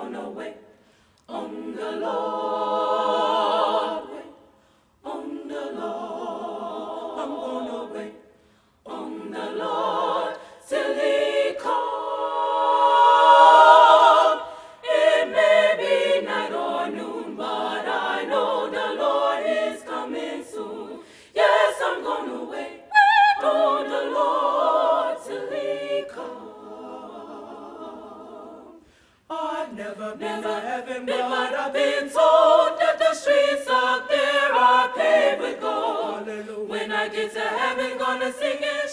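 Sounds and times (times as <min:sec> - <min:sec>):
women's choir singing a cappella: 0:00.0 - 0:38.9.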